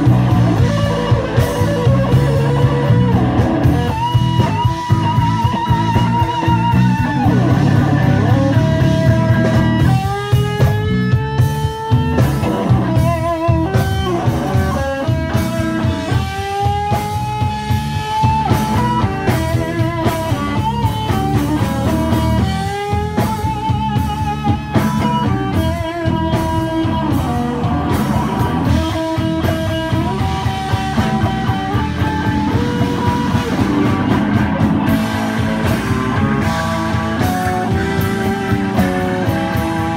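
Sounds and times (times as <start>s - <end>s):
electric guitar solo: 0.0s - 39.9s
live blues band: 0.0s - 39.9s.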